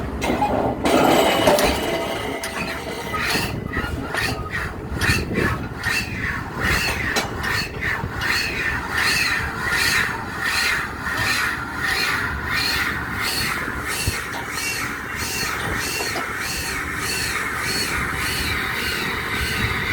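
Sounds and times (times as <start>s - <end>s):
diesel rig low rumble: 0.0s - 19.9s
pile driver squealing: 0.2s - 19.9s.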